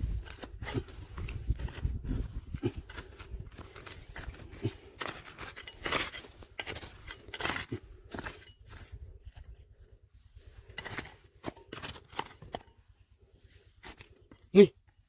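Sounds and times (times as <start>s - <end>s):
digging through gravel and soil: 0.0s - 14.9s.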